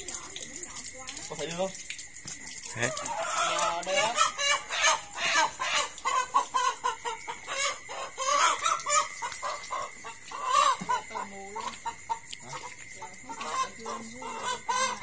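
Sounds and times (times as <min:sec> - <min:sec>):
chickens clucking and squawking: 0:02.6 - 0:15.0.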